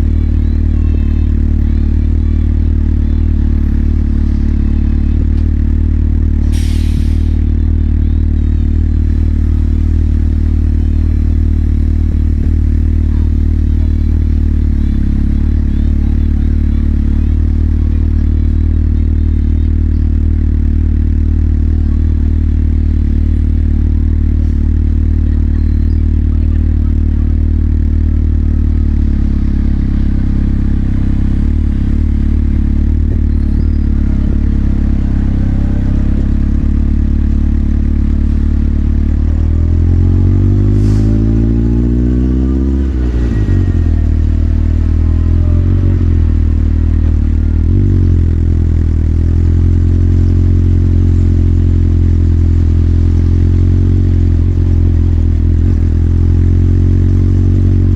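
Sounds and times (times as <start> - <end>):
motorcycle engine idling: 0.0 - 40.4, 42.3 - 57.9.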